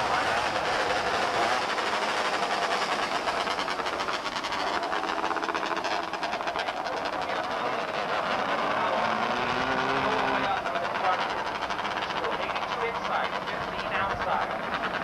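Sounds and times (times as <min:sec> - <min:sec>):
small race car engines revving: 0:00.0 - 0:15.0.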